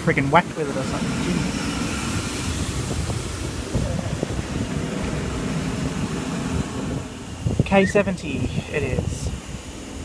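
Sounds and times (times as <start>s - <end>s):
electric train rumbling: 0.0s - 10.0s
wind on microphone: 0.9s - 9.8s.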